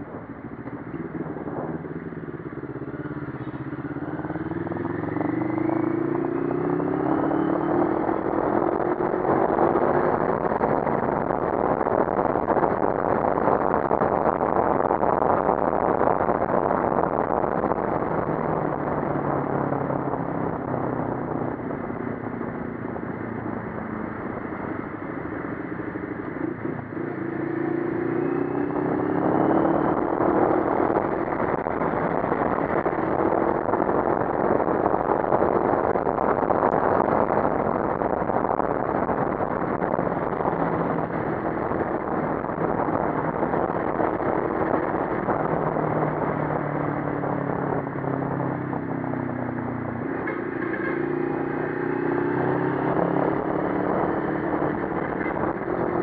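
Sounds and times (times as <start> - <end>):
motorcycle engine running: 0.0 - 56.0
wind and road rush: 0.0 - 56.0.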